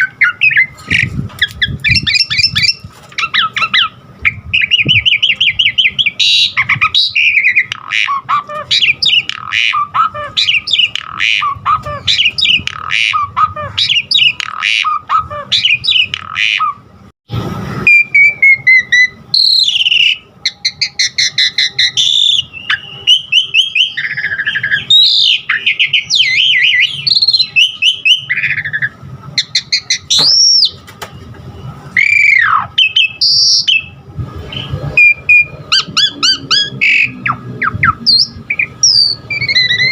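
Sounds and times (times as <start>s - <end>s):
starling singing chattering whistles: 0.0s - 16.8s, 17.9s - 30.8s, 32.0s - 39.9s.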